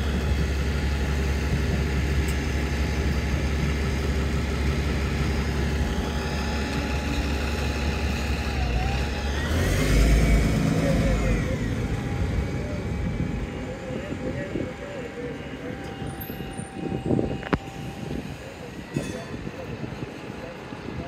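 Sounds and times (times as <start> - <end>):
bus engines running: 0.0 - 21.0
vehicle moving off with whine: 0.0 - 21.0.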